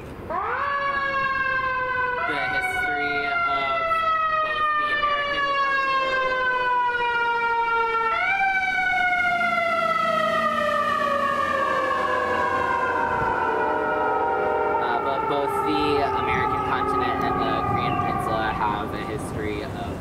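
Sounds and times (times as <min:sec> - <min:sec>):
siren wailing: 0:00.3 - 0:20.0.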